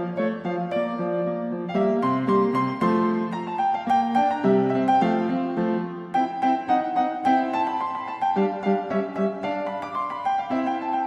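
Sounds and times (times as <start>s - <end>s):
keyboard playing run of notes: 0.0s - 11.0s.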